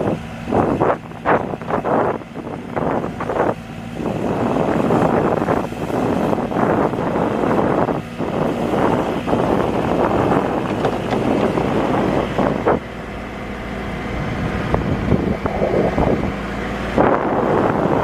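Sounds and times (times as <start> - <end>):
backhoe diesel engine running: 0.0 - 18.0
wind buffeting microphone: 0.0 - 18.0.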